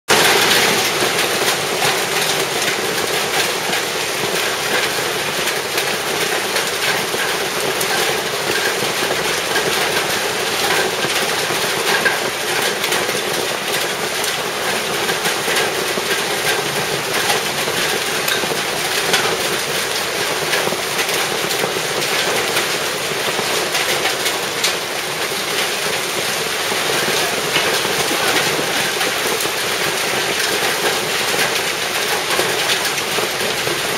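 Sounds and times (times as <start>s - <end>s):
hail and heavy rain on paving: 0.1s - 33.9s.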